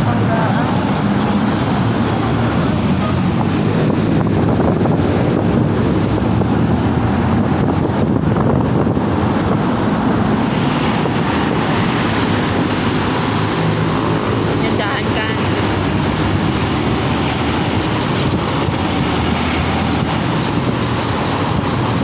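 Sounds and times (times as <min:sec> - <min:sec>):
road noise: 0:00.0 - 0:22.0
wind noise on microphone: 0:00.0 - 0:22.0.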